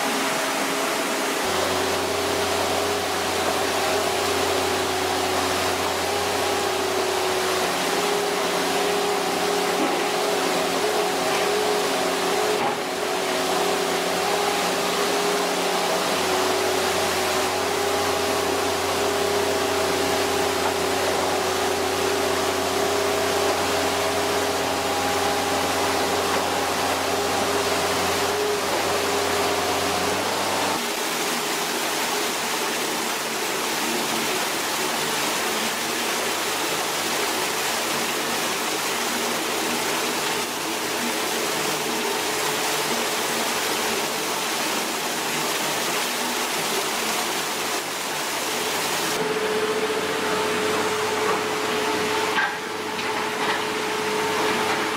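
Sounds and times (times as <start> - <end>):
machine hum and whine: 0.0 - 54.9.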